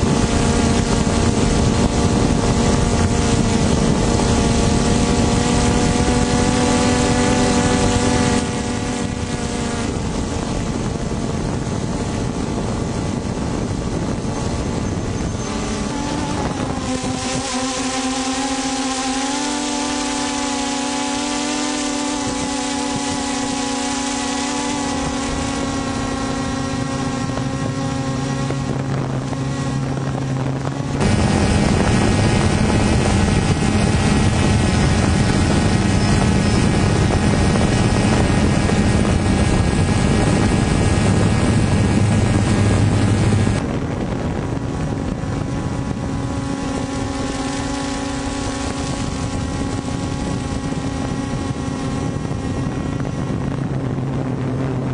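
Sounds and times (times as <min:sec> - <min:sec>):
helicopter rotors droning: 0:00.0 - 0:54.9.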